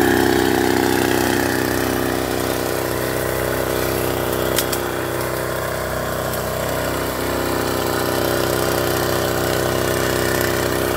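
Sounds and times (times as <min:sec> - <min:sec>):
small engine running: 0:00.0 - 0:10.9.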